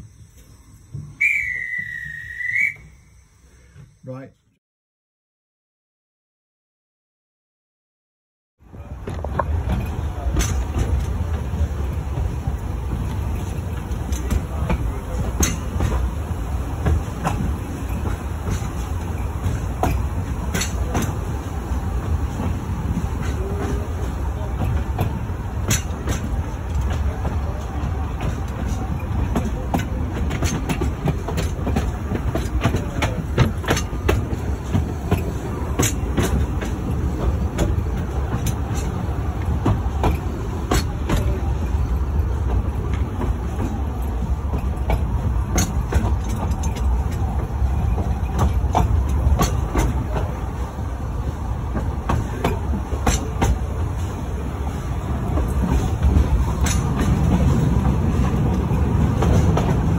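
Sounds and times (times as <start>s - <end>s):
wheels clattering on track: 0.0s - 3.0s, 8.6s - 59.9s
train low rumble: 0.0s - 4.6s, 8.6s - 59.9s.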